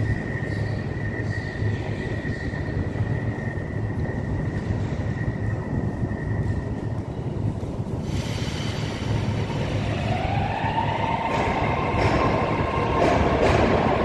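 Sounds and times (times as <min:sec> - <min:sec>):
metro train rumble: 0:00.0 - 0:14.0
train whine: 0:00.0 - 0:14.0.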